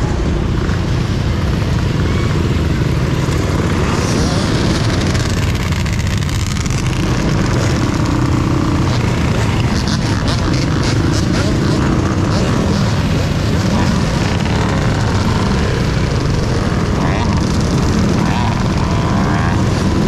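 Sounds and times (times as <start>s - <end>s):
road noise: 0.0s - 20.0s
wind rumble: 0.0s - 20.0s.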